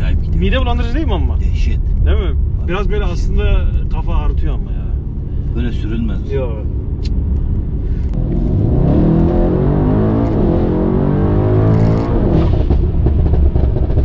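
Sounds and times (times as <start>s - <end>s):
car engine accelerating: 0.0s - 14.0s
exhaust crackling: 0.0s - 14.0s.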